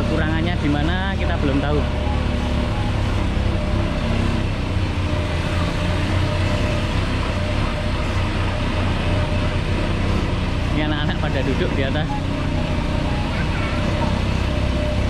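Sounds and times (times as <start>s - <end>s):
motorcycle engine running under load: 0.0s - 15.0s.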